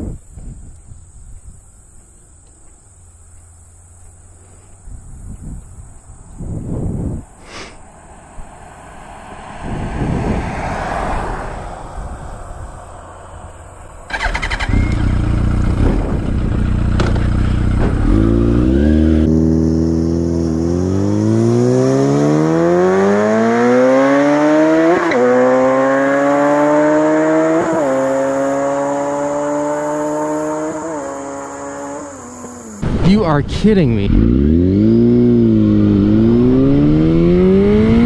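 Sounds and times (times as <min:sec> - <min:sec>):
motorcycle engine accelerating: 0:01.8 - 0:33.0, 0:33.8 - 0:38.0.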